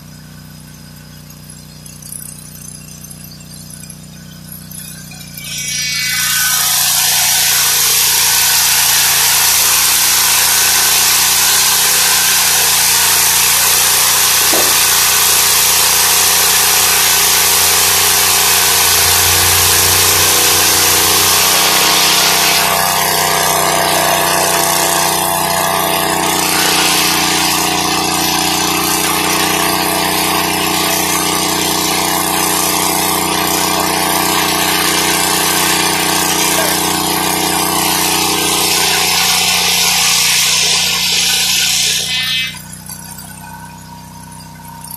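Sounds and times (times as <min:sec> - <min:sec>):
sawmill engine running: 0:00.0 - 0:44.9
saw blade hissing through log: 0:05.4 - 0:42.8.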